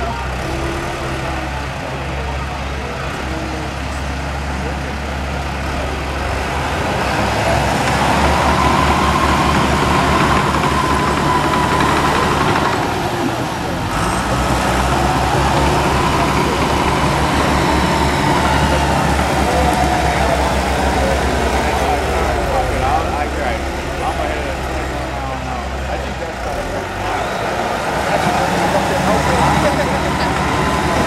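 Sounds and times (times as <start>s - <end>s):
heavy vehicle engine running: 0.0s - 31.0s.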